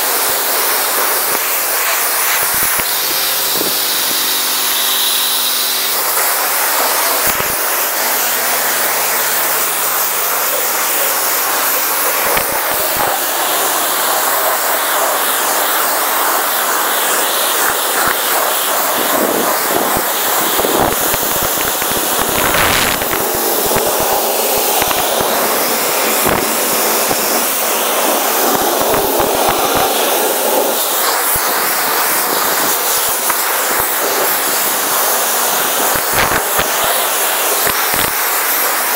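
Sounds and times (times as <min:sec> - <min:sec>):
high-pressure water spray hiss: 0:00.0 - 0:38.9.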